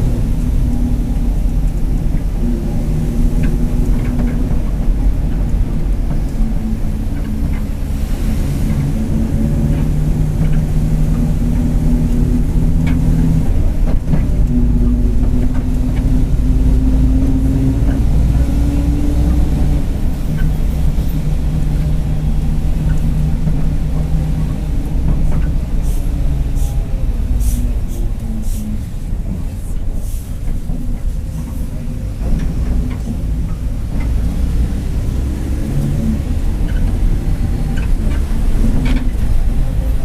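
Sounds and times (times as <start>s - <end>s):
bus diesel engine droning: 0.0s - 40.0s.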